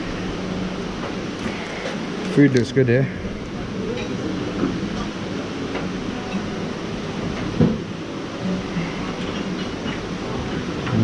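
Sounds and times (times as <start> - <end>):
murmur of distant voices: 1.4 - 11.0.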